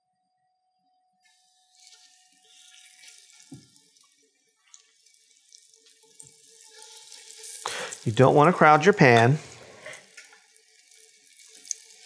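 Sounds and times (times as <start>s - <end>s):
chicken sizzling in hot oil: 1.5s - 12.0s.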